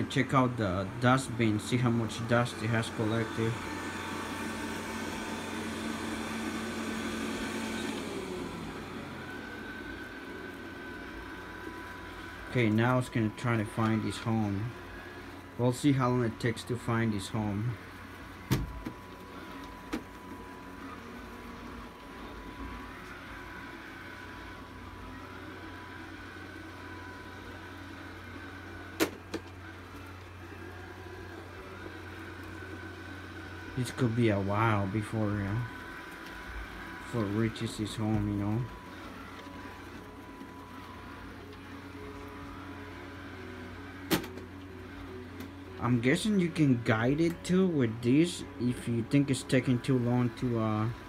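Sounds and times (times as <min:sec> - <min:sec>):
higher motor whine: 0:00.0 - 0:51.0
robot vacuum motor hum: 0:00.0 - 0:51.0.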